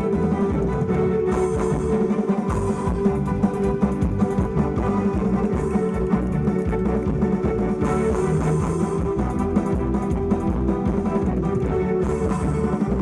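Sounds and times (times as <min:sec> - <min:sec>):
carnival dance music: 0:00.0 - 0:13.0.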